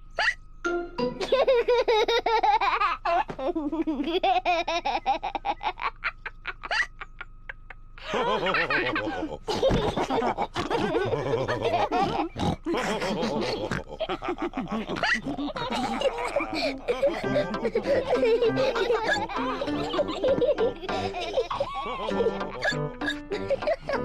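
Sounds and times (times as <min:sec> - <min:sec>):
cartoon characters laughing: 0:01.2 - 0:24.0.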